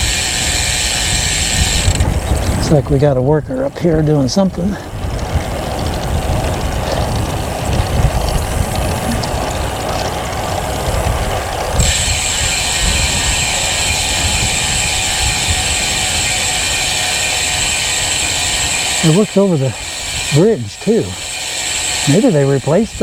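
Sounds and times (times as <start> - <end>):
wind on microphone: 0.0 - 21.0
bicycle freehub ratchet buzz: 0.0 - 23.0.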